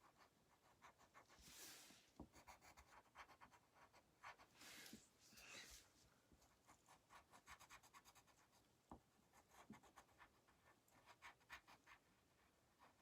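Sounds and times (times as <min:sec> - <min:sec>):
colored pencil scratching on paper: 0:00.0 - 0:05.8, 0:06.4 - 0:08.6, 0:09.3 - 0:13.0.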